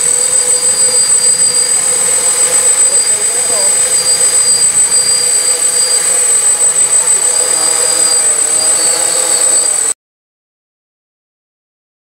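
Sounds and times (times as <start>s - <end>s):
quadcopter hovering whine: 0.0s - 10.0s.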